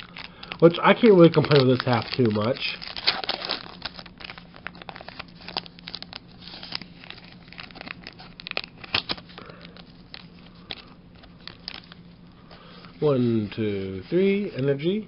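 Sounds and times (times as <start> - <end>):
foil wrapper crinkling and tearing: 0.0 - 14.5.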